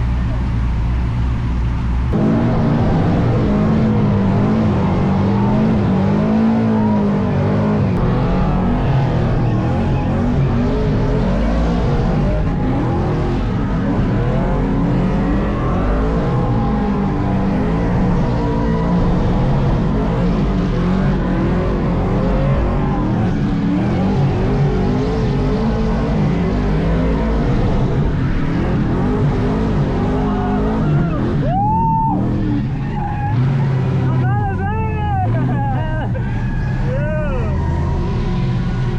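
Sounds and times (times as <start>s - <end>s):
truck engine revving: 0.0s - 38.9s
tire squeal: 2.2s - 38.9s.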